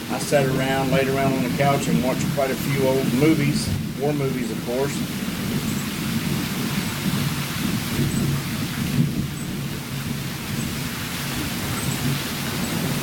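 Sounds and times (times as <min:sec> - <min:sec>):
rain falling: 0:00.0 - 0:13.0
thunder rumbling: 0:00.0 - 0:13.0.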